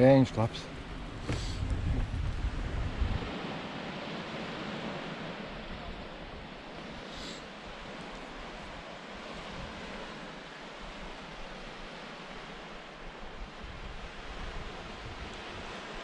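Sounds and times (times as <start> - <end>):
surf on beach: 0.0 - 16.0
wind buffeting microphone: 0.0 - 16.0.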